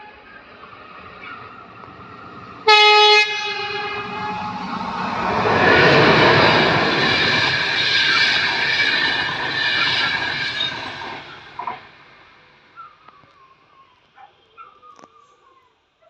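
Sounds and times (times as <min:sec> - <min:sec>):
train passing at speed: 0:00.0 - 0:13.9.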